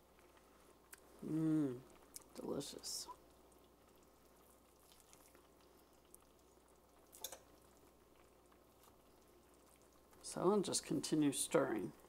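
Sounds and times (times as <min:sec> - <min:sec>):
food simmering in pan: 0:00.0 - 0:12.0.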